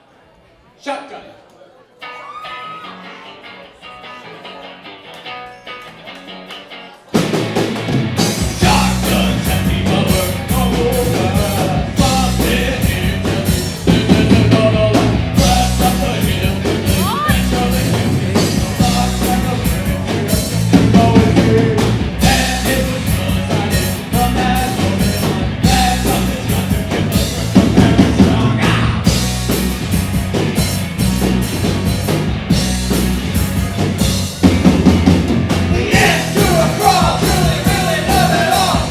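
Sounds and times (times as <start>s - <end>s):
quiet electric guitar: 2.0s - 38.9s
rock band playing: 2.0s - 38.9s.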